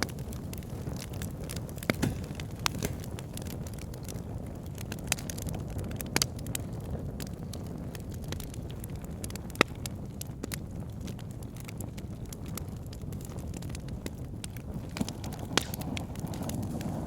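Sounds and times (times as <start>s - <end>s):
fire rumbling in a fireplace: 0.0s - 17.0s
logs crackling and popping: 0.0s - 17.0s.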